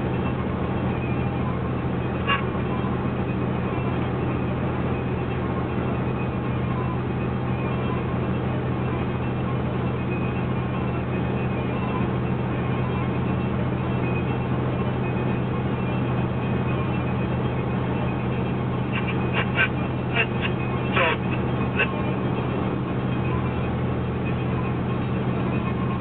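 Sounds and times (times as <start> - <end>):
car cabin road hum: 0.0 - 26.0.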